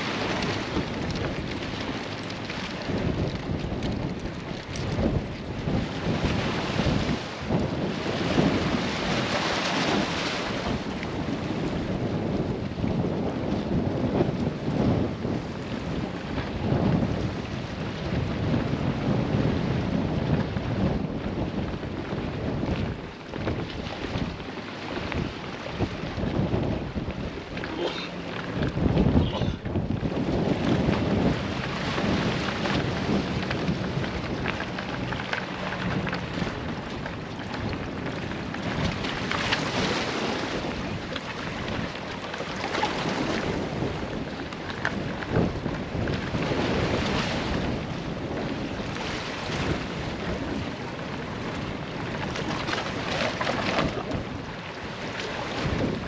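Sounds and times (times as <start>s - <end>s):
low engine hum: 0.0s - 56.0s
sea water washing against rocks: 0.0s - 56.0s
wind gusting on microphone: 0.0s - 56.0s.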